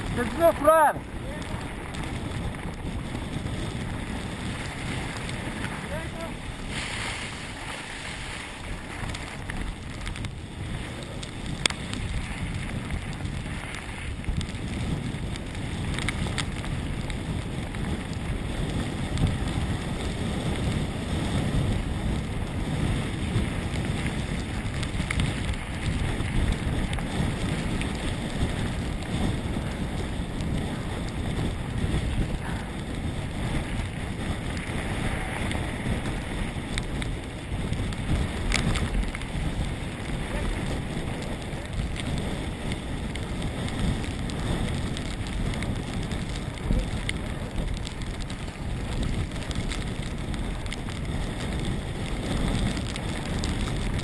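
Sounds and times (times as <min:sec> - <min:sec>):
bike rumbling on rough trail: 0:00.0 - 0:54.0
wind buffeting microphone: 0:00.0 - 0:54.0.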